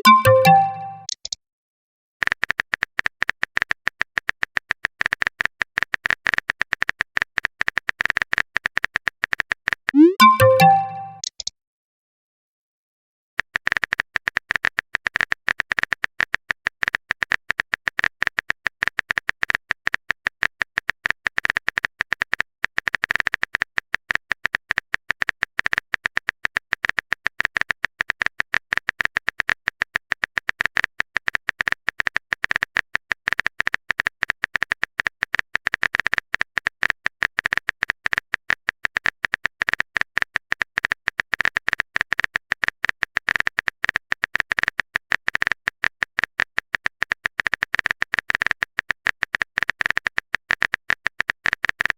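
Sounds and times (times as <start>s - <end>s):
rapid keyboard clicking: 2.3s - 11.2s, 13.4s - 51.9s.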